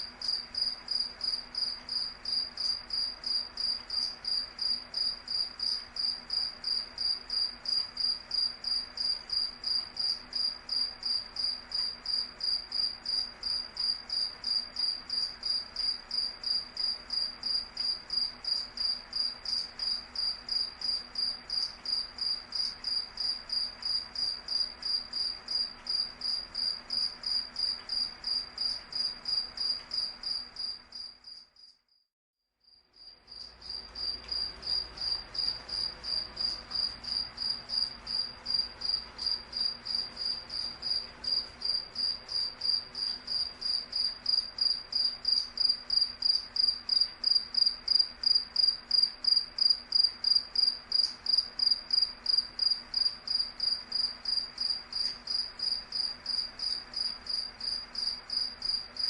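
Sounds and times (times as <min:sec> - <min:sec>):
cricket chirping: 0:00.0 - 0:32.0, 0:32.6 - 0:59.0.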